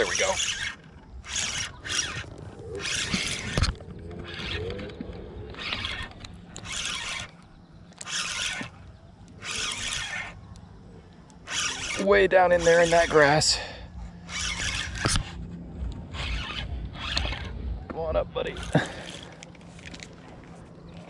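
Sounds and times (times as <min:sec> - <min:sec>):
fishing reel whirring: 0:00.0 - 0:17.6, 0:18.4 - 0:20.3.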